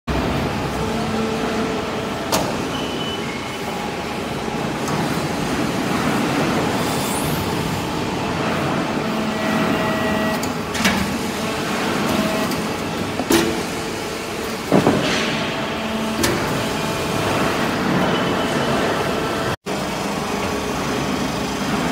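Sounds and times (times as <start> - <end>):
hydraulic press hum and hiss: 0.1 - 21.9.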